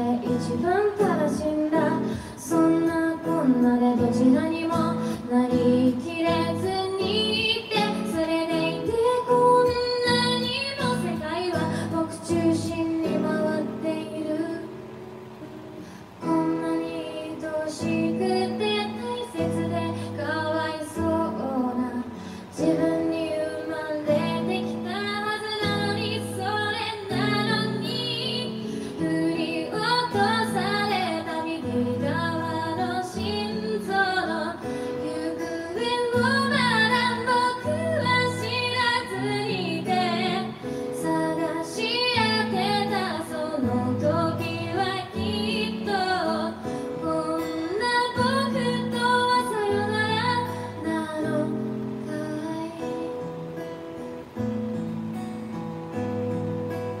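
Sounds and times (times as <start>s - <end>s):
woman singing: 0.0s - 15.4s, 16.0s - 53.4s
acoustic guitar: 0.0s - 57.0s.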